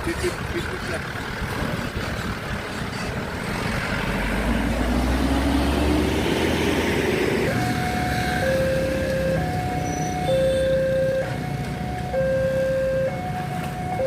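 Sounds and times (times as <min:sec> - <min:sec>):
diesel engine pulling away: 0:00.0 - 0:14.0
road traffic: 0:00.0 - 0:14.0.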